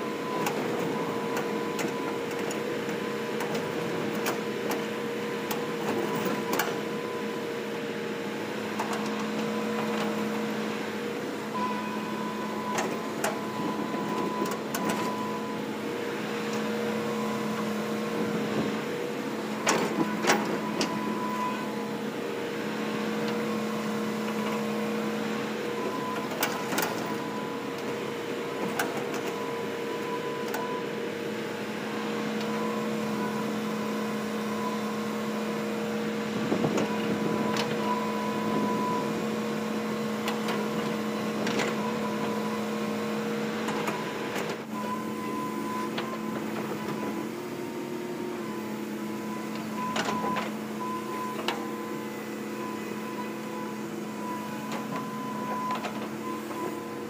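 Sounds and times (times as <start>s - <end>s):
excavator engine hum: 0.0s - 57.0s
hydraulic whine: 0.0s - 57.0s.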